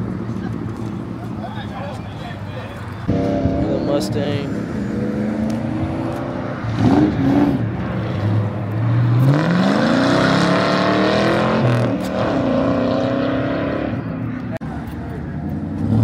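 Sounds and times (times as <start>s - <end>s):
car engine revving: 3.0s - 16.0s.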